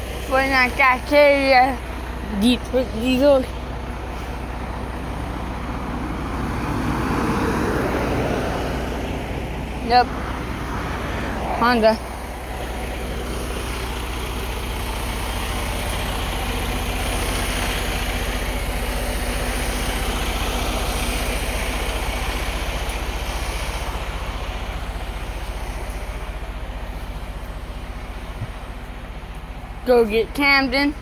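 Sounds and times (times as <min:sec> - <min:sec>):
low engine hum: 0:00.0 - 0:31.0
vehicle passing: 0:00.0 - 0:31.0.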